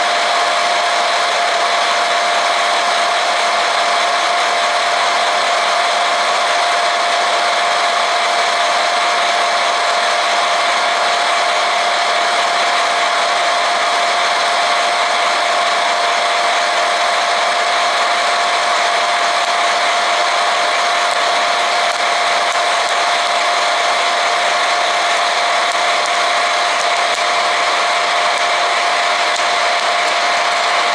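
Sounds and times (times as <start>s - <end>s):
popcorn maker fan rushing: 0.0s - 30.9s
steady whine: 0.0s - 30.9s.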